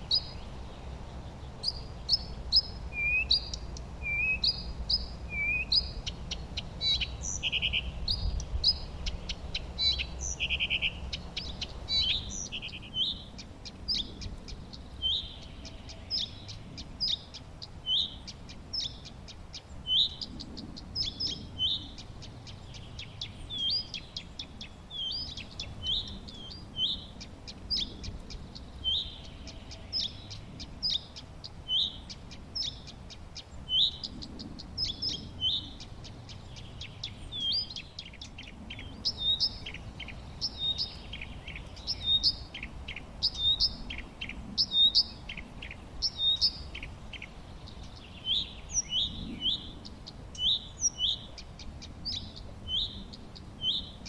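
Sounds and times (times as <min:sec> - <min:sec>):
bird high chirps: 0:00.0 - 0:54.0
birds thin ticking calls: 0:00.0 - 0:54.0.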